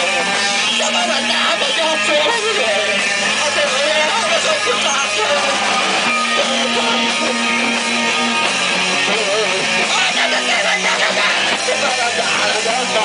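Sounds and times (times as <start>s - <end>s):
drum kit with cymbals: 0.0s - 13.0s
electric guitar: 0.0s - 13.0s.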